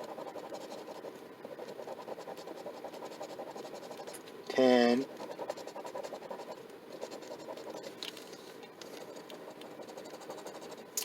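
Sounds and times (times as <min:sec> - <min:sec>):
coin scratching lottery ticket: 0:00.0 - 0:04.2, 0:05.0 - 0:08.0, 0:09.0 - 0:10.8.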